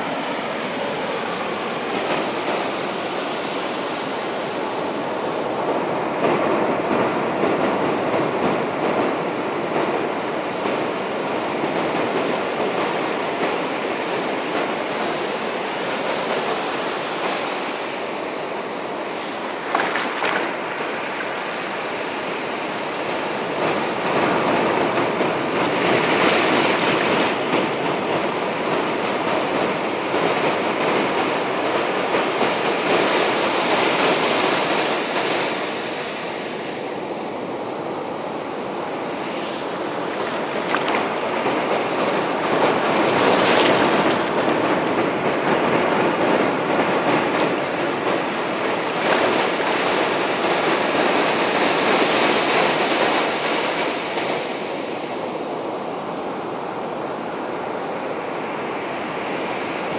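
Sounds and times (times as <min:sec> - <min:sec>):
ocean surf breaking on a beach: 0:00.0 - 0:59.9.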